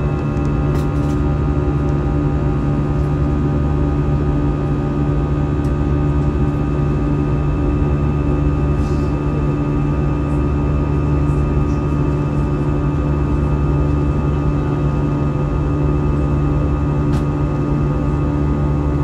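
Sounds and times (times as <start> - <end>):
jet engines droning in cabin: 0.0 - 19.0.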